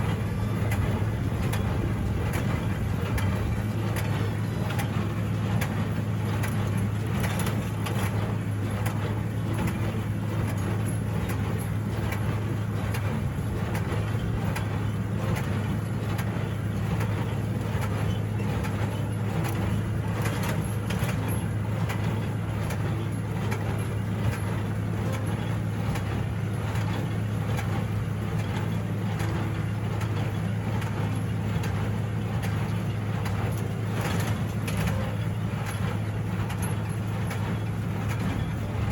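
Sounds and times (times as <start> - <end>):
tractor engine droning: 0.0 - 38.9.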